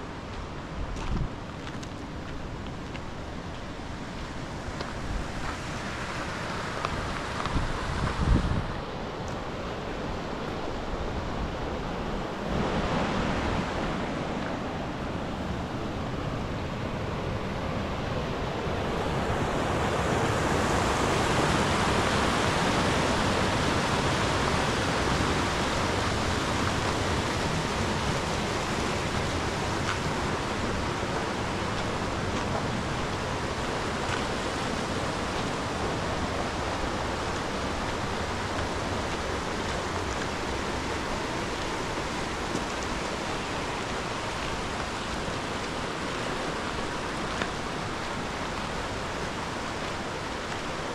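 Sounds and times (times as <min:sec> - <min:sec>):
flowing mountain water: 0:00.0 - 0:50.9.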